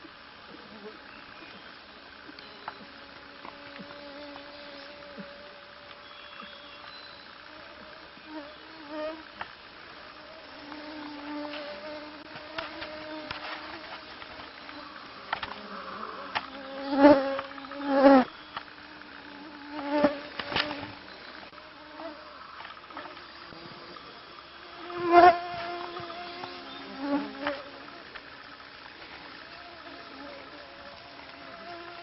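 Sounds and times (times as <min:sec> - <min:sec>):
flying insects buzzing: 0:00.0 - 0:32.0.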